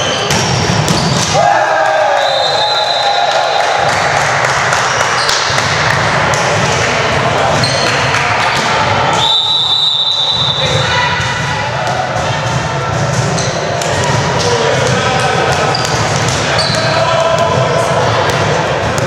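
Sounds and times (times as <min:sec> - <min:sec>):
echoing voices and chatter: 0:00.0 - 0:19.0.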